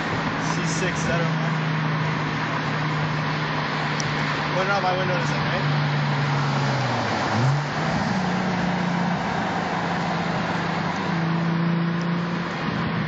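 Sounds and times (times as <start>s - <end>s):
car engine running: 0.0s - 13.0s
tyre and road noise: 0.0s - 13.0s.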